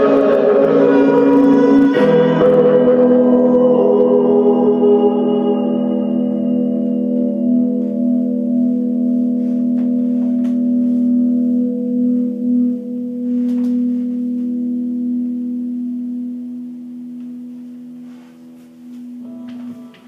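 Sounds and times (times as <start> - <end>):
held musical tone: 0.0 - 20.0.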